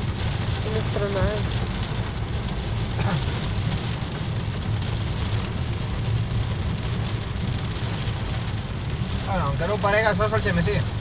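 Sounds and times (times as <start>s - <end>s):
car driving on wet road: 0.0s - 11.0s
rain hitting car windscreen: 0.0s - 11.0s.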